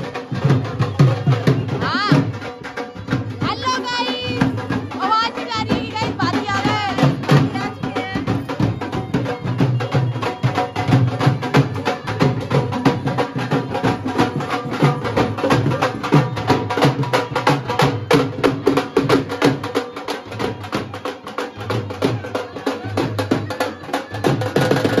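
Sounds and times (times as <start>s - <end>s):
dhol drums beaten with sticks: 0.0s - 25.0s.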